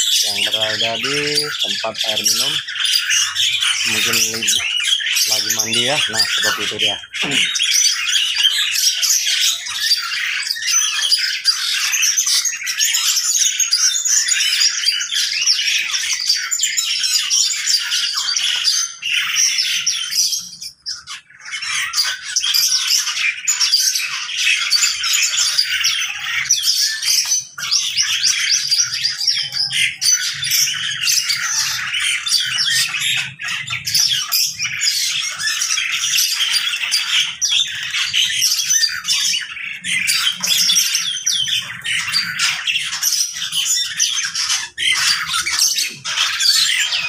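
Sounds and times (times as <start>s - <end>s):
birds squawking and chirping: 0.0s - 47.0s.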